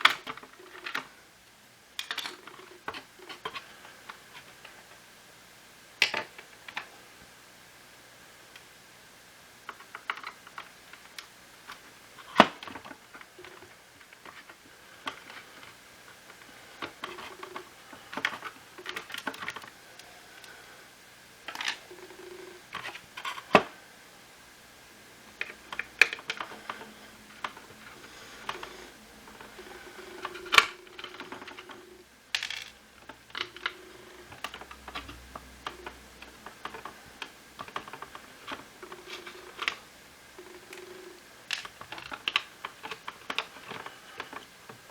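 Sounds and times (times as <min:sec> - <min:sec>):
plastic parts clicking and knocking: 0:00.0 - 0:01.1, 0:02.0 - 0:04.8, 0:06.0 - 0:06.9, 0:09.7 - 0:20.5, 0:21.4 - 0:23.7, 0:25.4 - 0:44.9.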